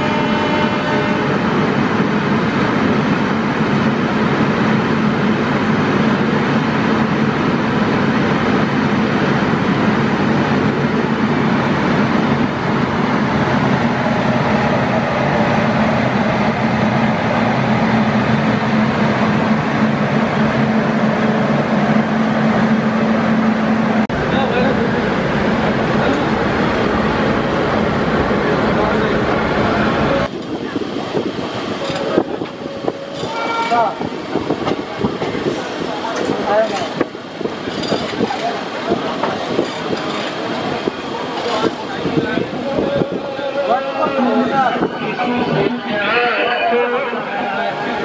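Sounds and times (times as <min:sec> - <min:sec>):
moving train rumble: 0:00.0 - 0:48.0.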